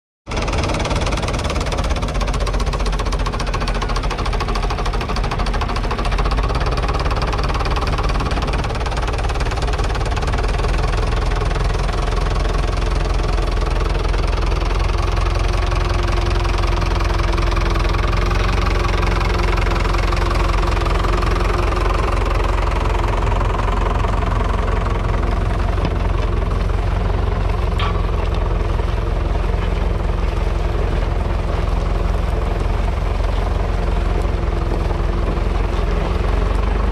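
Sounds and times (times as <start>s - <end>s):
tractor diesel engine running: 0.3s - 36.9s.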